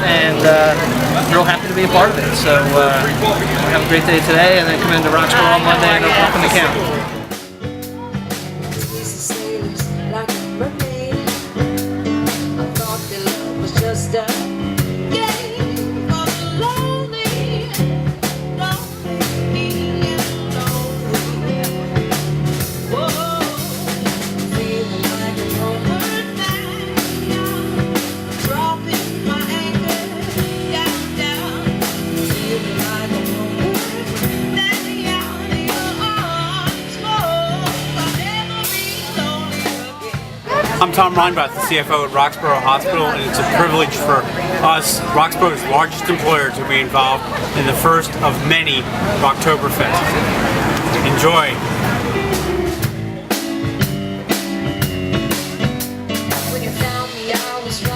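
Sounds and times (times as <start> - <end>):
band music: 0.0 - 57.9
drum kit beat: 0.0 - 57.9.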